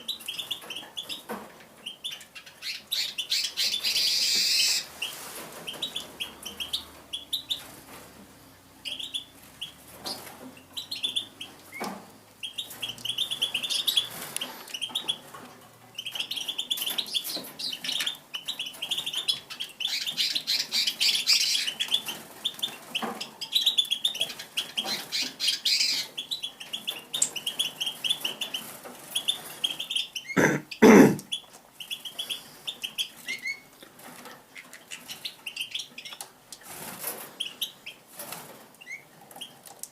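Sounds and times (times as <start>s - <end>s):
songbird chirping: 0.0s - 33.8s.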